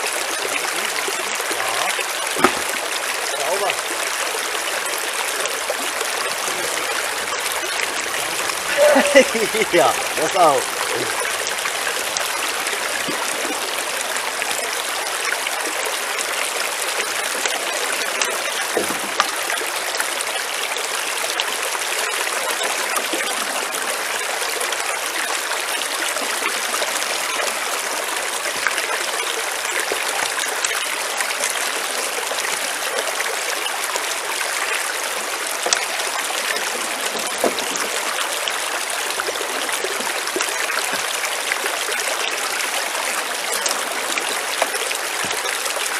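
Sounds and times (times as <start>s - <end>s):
water rushing through sluice box: 0.0s - 45.9s.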